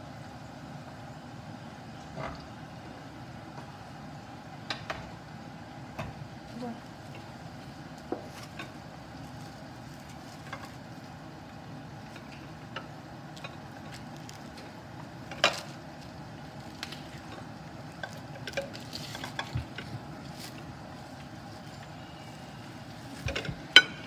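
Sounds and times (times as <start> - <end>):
fries sizzling in oil: 0.0 - 24.0.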